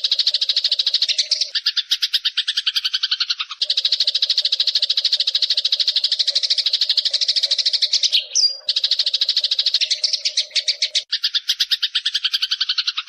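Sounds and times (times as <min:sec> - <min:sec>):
bird whistle: 0:00.0 - 0:13.0
sparrow chattering call: 0:00.0 - 0:13.0.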